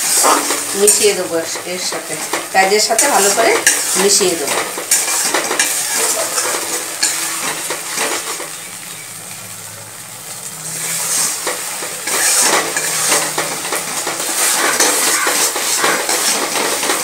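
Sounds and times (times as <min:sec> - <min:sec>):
metal spatula scraping pan: 0:00.0 - 0:09.0, 0:10.6 - 0:17.0
paste sizzling in oil: 0:00.0 - 0:17.0.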